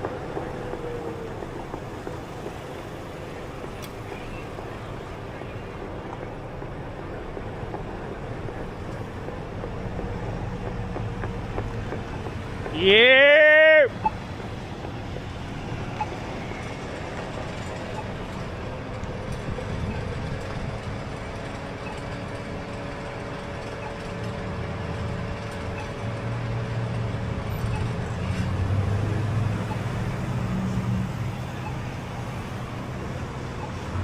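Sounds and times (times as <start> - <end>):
hum of road traffic: 0.0 - 34.0
low engine sound: 0.0 - 34.0.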